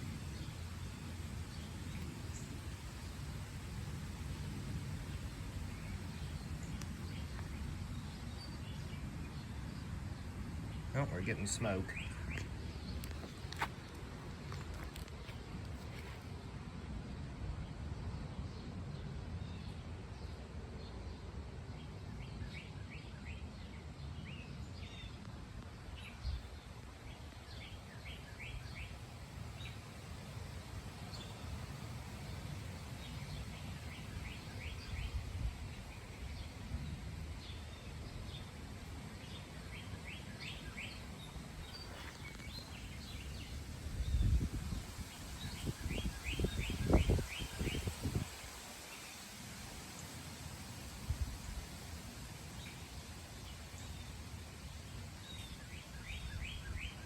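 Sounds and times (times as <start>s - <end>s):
small birds chirping: 0.0s - 16.6s, 17.6s - 57.0s
steady outdoor noise: 0.0s - 57.0s.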